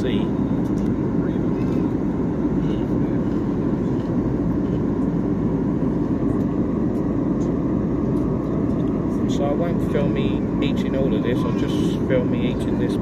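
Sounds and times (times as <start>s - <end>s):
airliner cabin engine and airflow noise: 0.0s - 13.0s.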